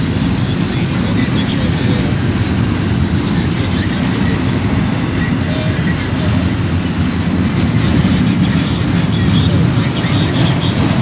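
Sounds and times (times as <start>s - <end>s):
train rumbling on track: 0.0s - 11.0s
wheel squeals: 0.0s - 11.0s.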